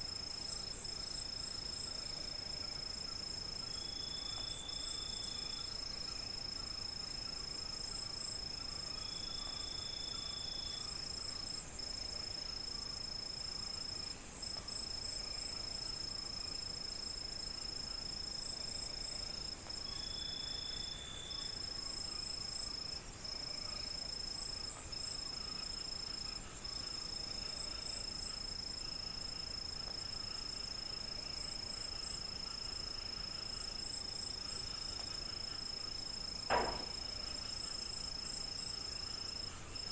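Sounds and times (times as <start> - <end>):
crickets chirring: 0.0 - 39.9
high pulsing insect: 0.0 - 39.9.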